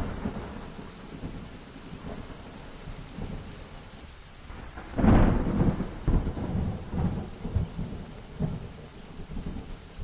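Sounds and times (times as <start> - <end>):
thunder rumbling: 0.0 - 3.6, 4.4 - 10.0
heavy rain hissing: 0.0 - 10.0.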